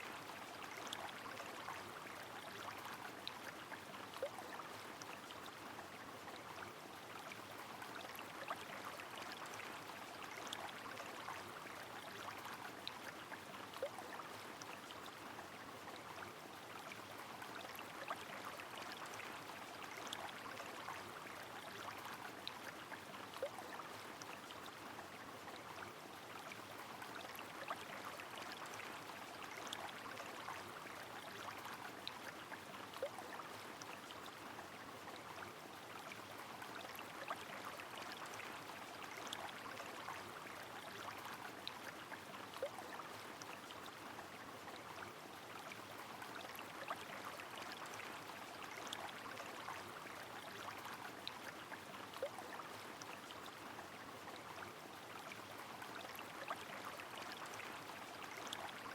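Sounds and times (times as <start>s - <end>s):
river flowing: 0.0s - 58.9s.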